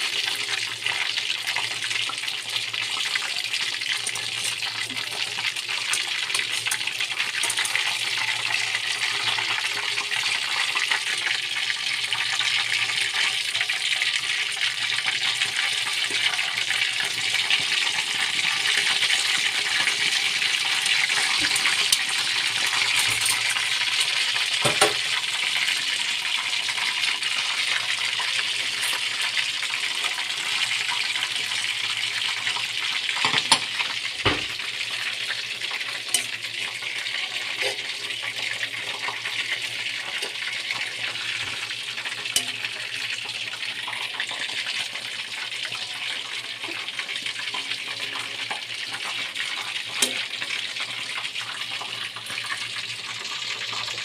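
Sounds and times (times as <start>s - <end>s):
oil sizzling and crackling: 0.0s - 54.0s.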